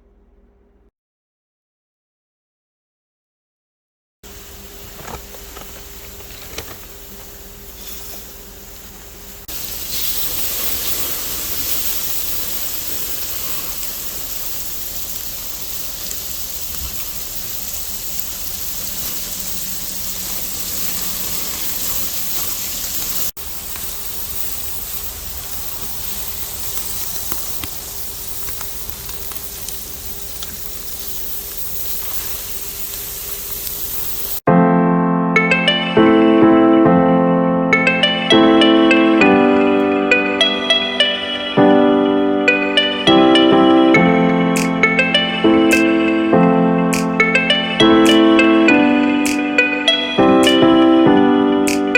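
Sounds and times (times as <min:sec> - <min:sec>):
steak sizzling on a grill: 0:04.3 - 0:34.4, 0:39.4 - 0:51.9.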